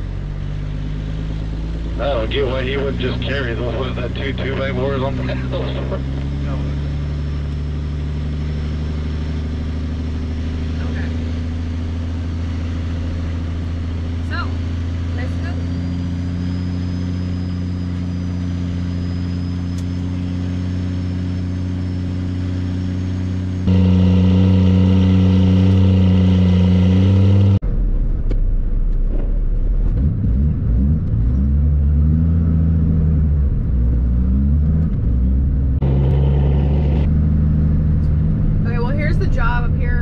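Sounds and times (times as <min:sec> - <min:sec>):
diesel truck engine driving: 0:00.0 - 0:40.0.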